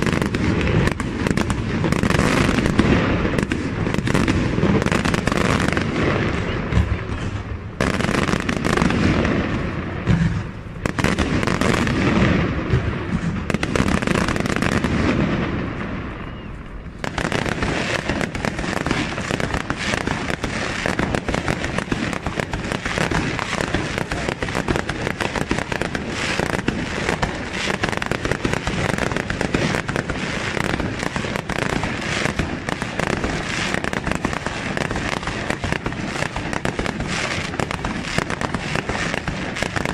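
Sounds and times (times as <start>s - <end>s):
firework crackle: 0.0s - 39.9s
firework shells booming: 0.0s - 39.9s.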